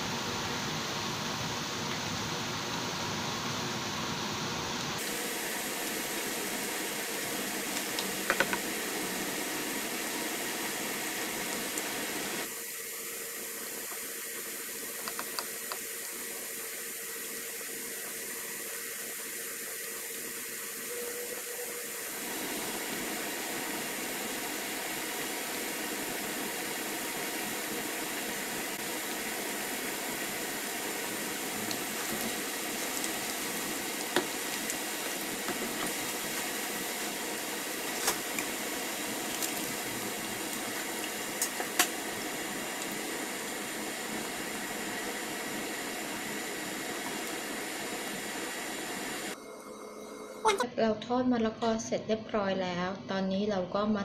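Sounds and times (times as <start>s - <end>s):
food sizzling in hot oil: 0.0s - 49.4s.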